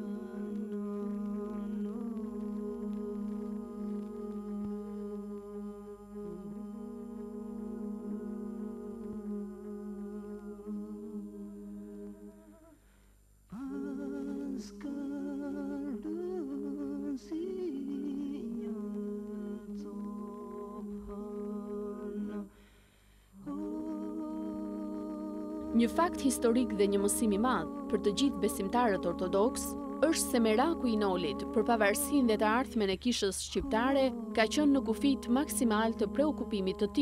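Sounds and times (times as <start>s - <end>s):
voices humming mournful melody: 0.0s - 12.8s, 13.6s - 22.7s, 23.4s - 37.0s.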